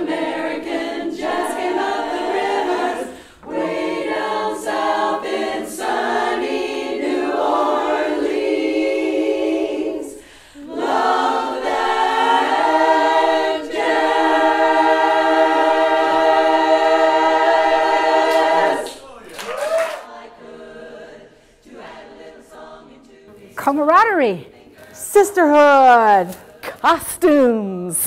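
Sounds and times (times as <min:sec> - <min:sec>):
women's chorus singing a cappella: 0:00.0 - 0:19.2, 0:19.9 - 0:28.0.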